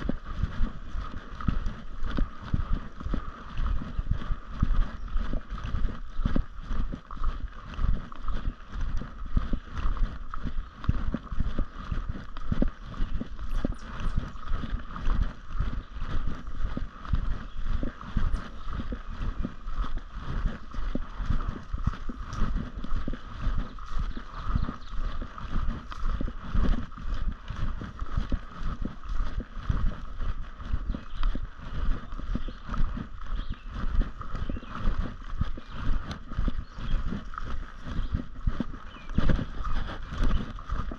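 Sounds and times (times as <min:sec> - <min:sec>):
footsteps on gravel: 0:00.0 - 0:40.9
wind rumbling on microphone: 0:00.0 - 0:40.9.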